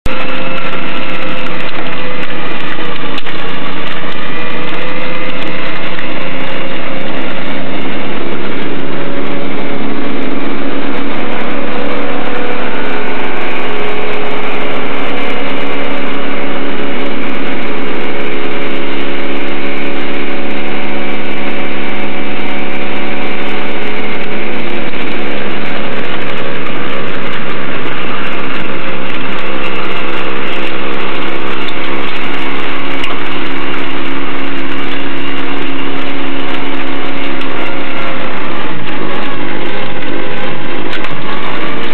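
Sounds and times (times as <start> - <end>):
pickup truck engine: 0.0 - 41.9
snowblower engine droning: 0.0 - 41.9.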